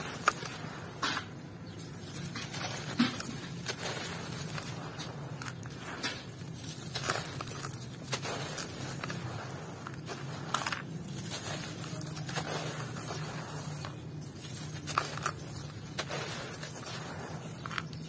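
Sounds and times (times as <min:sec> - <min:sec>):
hands crumbling gritty dirt: 0:00.0 - 0:18.0.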